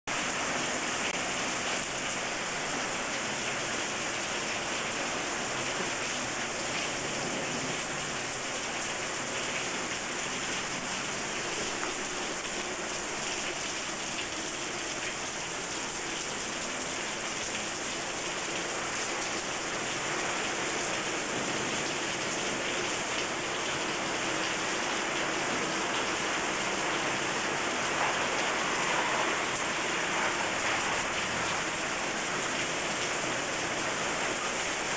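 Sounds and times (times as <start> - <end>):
hail and rain beating down: 0.1 - 34.9.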